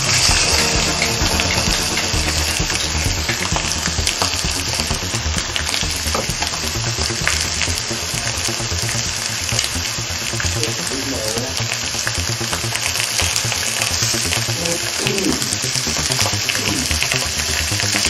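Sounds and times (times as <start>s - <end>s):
meat sizzling on grill: 0.0s - 18.0s.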